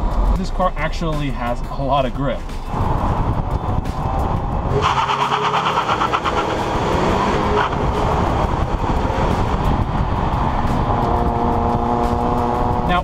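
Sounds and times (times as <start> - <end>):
car tyre road and engine noise: 0.0 - 13.0.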